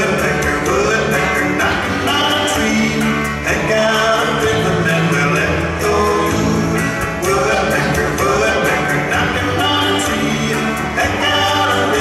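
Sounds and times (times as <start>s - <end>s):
song with singing and beat: 0.0s - 12.0s.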